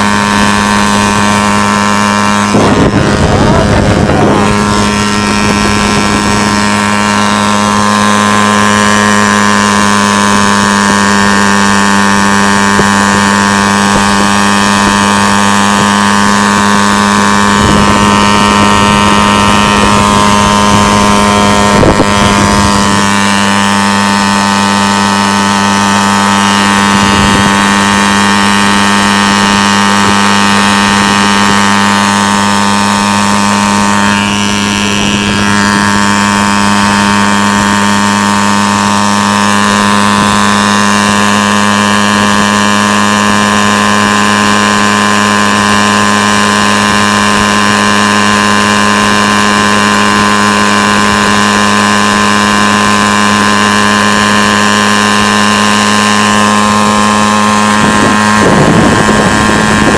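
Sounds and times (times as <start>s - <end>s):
unmuffled moped engine buzzing: 0.0s - 59.9s.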